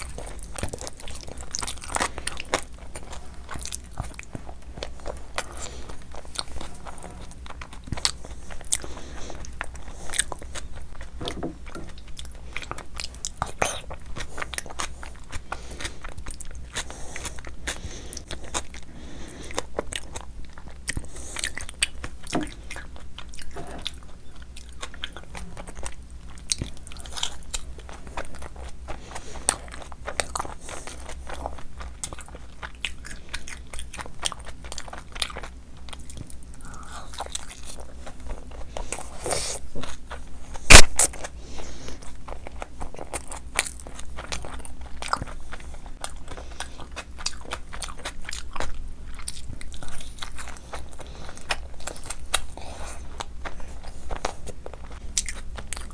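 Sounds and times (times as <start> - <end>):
person chewing with wet smacks: 0.0 - 55.9.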